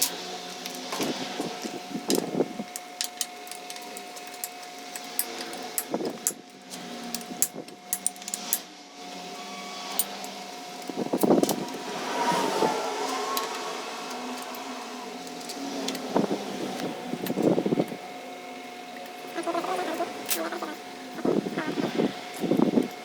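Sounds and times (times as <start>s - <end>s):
faint workshop hum: 0.0s - 23.0s.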